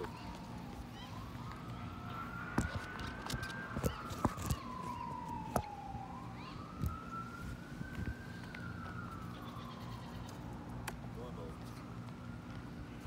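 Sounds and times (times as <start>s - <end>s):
faint siren wailing: 0.0s - 13.0s.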